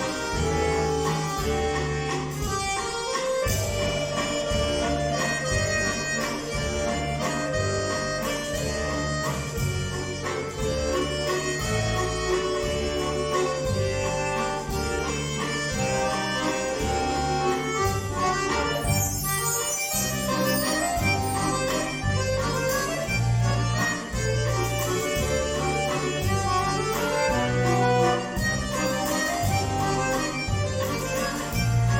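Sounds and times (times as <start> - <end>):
button accordions playing a duet: 0.0 - 31.9.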